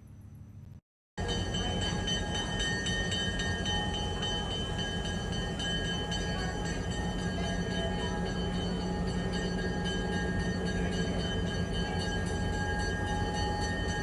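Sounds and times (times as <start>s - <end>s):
train rumbling: 0.2s - 14.0s.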